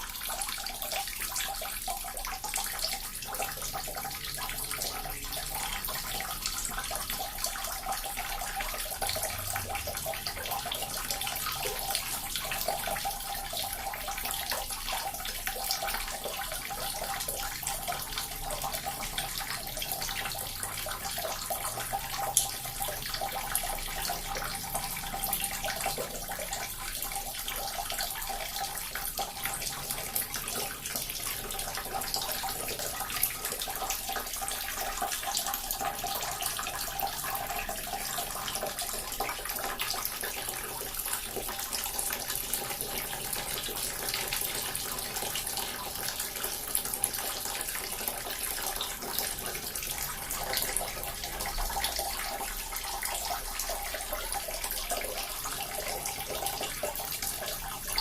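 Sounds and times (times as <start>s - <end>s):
water fountain splashing: 0.0s - 58.0s.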